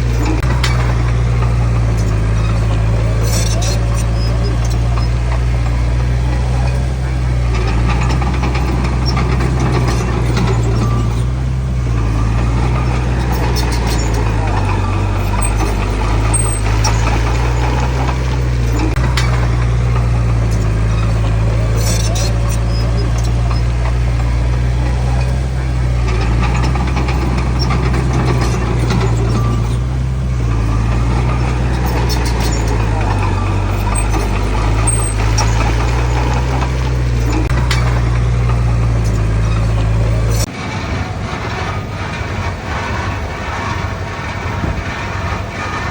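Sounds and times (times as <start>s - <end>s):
heavy diesel engine running: 0.0s - 45.9s
light clatter: 0.0s - 45.9s.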